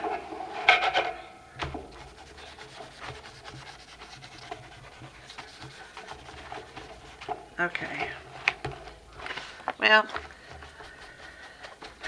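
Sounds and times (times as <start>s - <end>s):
hand rubbing paper: 1.6s - 12.0s.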